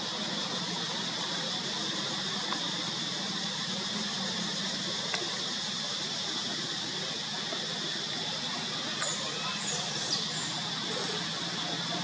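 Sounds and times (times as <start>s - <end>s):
forest ambience hiss: 0.0s - 12.0s.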